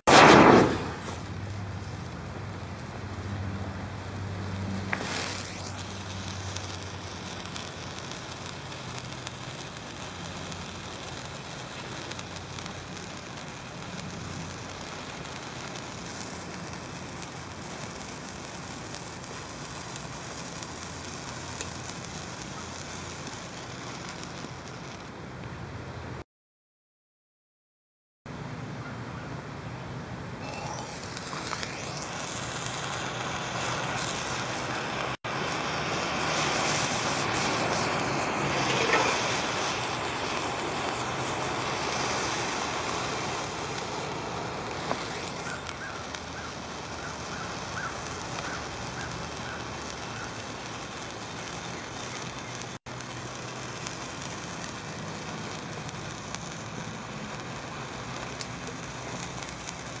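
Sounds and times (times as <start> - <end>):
sparklers crackling hiss: 0.0 - 25.1, 30.4 - 60.0.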